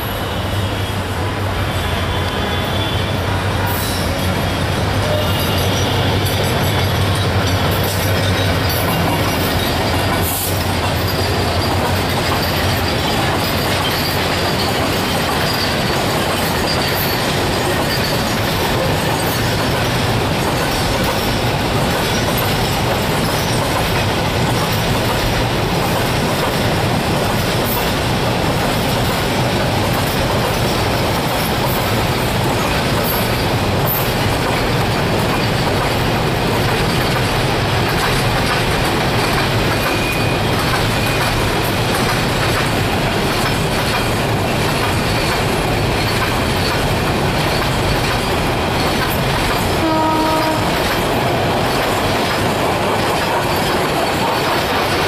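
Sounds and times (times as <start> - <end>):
freight train wheels clattering: 1.9 - 55.0.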